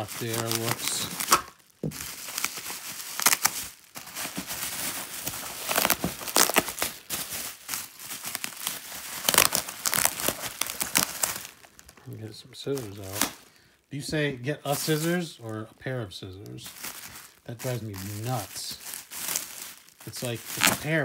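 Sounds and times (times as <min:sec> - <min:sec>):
bubble wrap crackling: 0:00.0 - 0:21.0.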